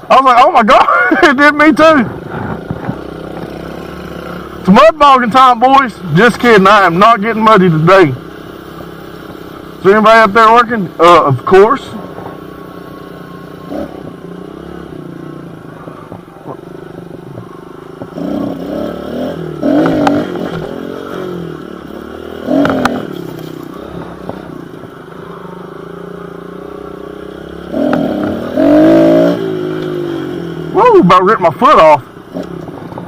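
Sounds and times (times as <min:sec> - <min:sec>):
small motorbike engine revving: 0:00.9 - 0:33.0.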